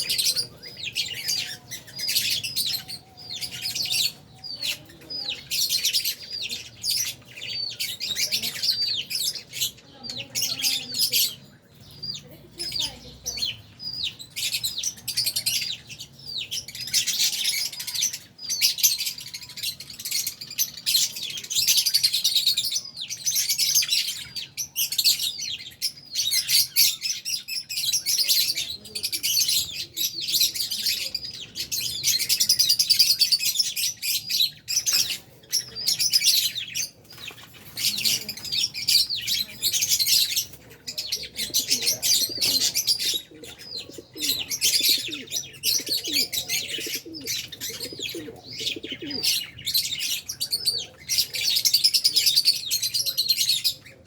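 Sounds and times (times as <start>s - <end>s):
lovebirds chirping: 0.0s - 54.0s.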